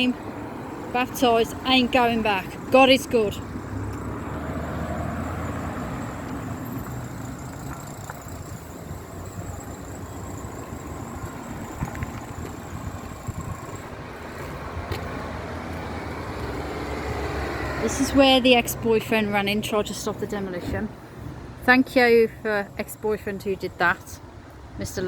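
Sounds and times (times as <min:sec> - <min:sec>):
motor vehicles passing: 0:00.0 - 0:25.0
steady road noise: 0:00.0 - 0:25.0.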